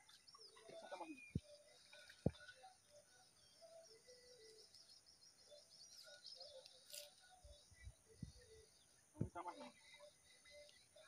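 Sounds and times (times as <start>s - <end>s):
faint birdsong chirps and trill: 0.0s - 11.0s.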